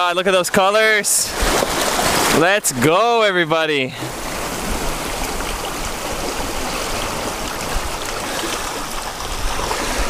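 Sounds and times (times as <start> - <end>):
surf washing over rocks: 0.0 - 10.0.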